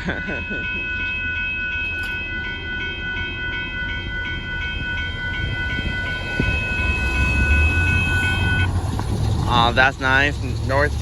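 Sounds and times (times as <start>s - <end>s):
low rumble: 0.0s - 11.0s
railroad crossing bell ringing: 0.0s - 11.0s.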